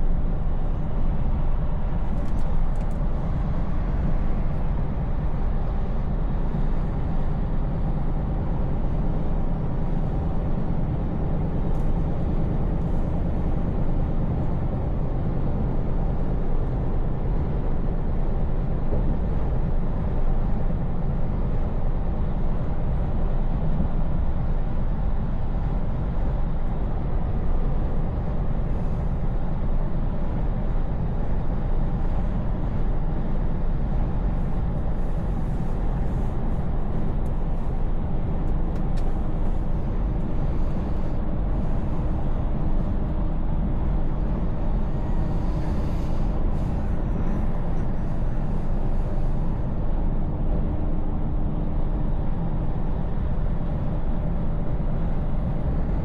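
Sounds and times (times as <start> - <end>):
road and tyre noise: 0.0 - 56.0
truck engine rumble: 0.0 - 56.0.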